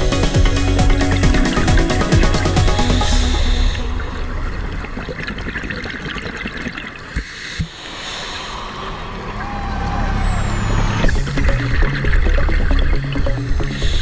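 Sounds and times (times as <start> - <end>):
underwater rushing and bubbling: 0.0 - 14.0.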